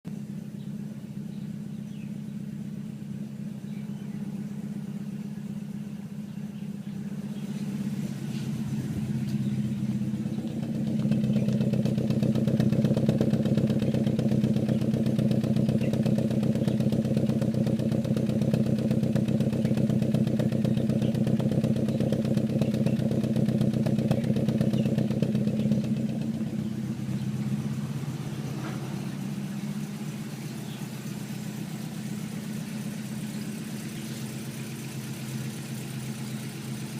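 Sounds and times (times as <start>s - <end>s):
car engine running steadily: 0.0s - 36.9s.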